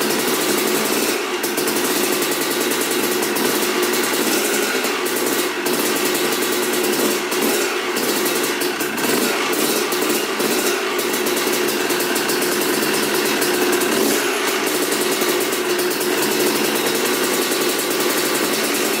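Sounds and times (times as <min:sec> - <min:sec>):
two-stroke engine idling: 0:00.0 - 0:19.0.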